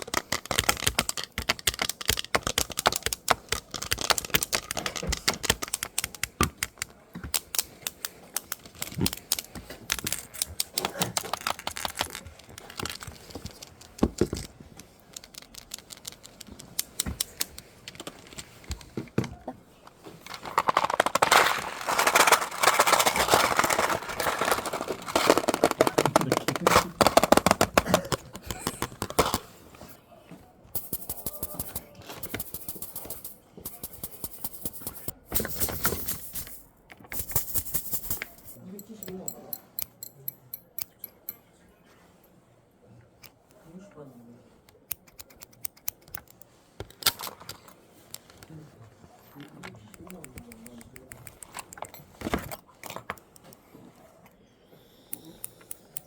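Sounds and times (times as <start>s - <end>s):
tapping and scratching clicks: 0.0s - 19.4s, 20.3s - 29.4s, 30.7s - 41.4s, 44.7s - 48.4s, 49.7s - 53.6s.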